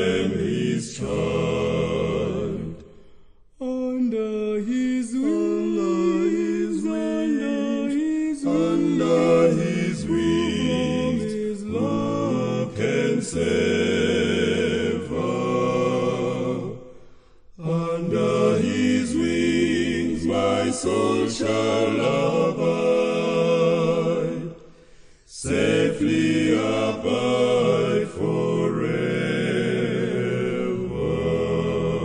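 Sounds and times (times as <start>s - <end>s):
men singing in harmony: 3.6s - 16.9s, 17.6s - 24.6s, 25.3s - 32.0s.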